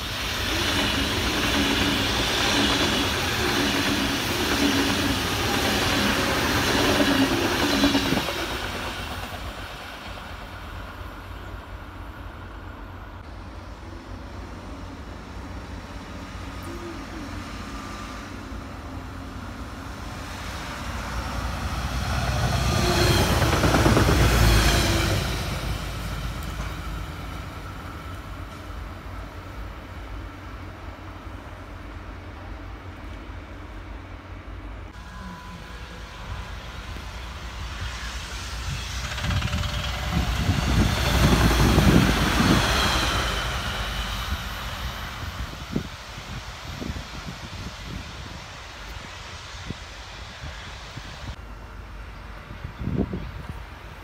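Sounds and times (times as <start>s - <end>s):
diesel train rumble: 0.0s - 54.0s
high-speed train passing: 0.0s - 54.0s.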